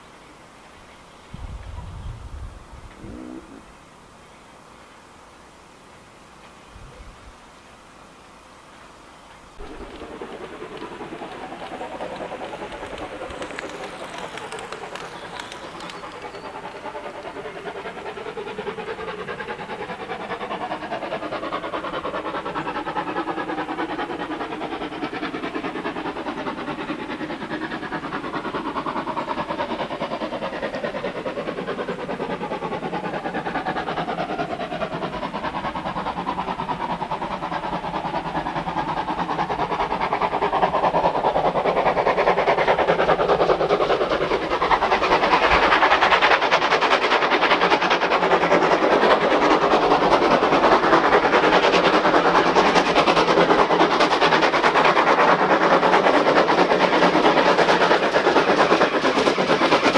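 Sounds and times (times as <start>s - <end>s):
train approaching: 0.0s - 6.7s, 7.6s - 59.9s
wavering tones of wheels on rails: 8.5s - 59.9s.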